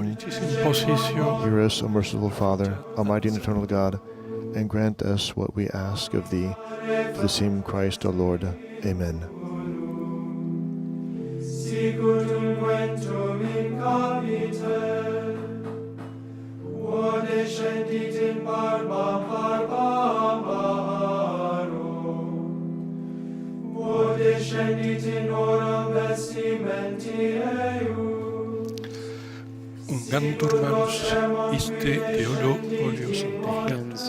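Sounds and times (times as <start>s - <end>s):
choir chanting: 0.0s - 4.8s, 5.7s - 22.6s, 23.6s - 29.2s, 29.8s - 34.0s
organ chords: 0.0s - 34.0s.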